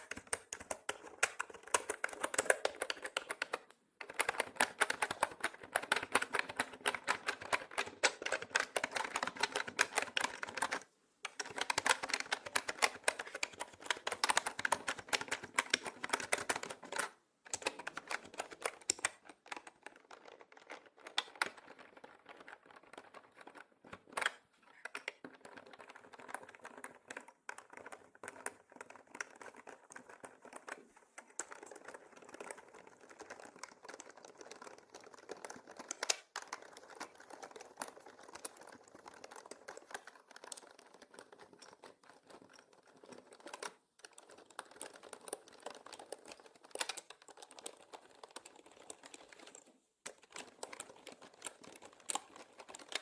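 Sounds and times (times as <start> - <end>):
mechanical keyboard typing: 0.0 - 53.0.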